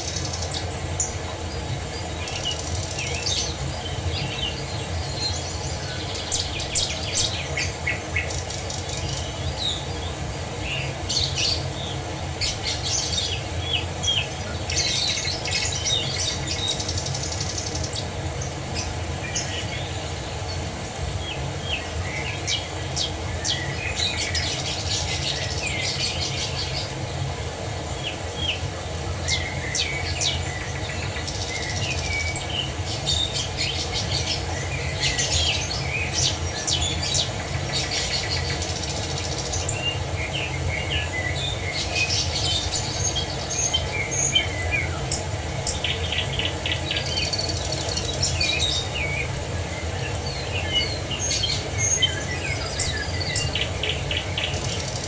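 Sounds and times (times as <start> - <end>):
rush of falling water: 0.0 - 55.0
songbirds chirping and trilling: 0.0 - 55.0.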